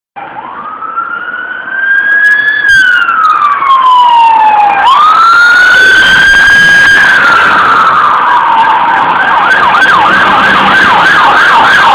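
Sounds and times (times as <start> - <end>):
emergency siren wailing: 0.2 - 11.9.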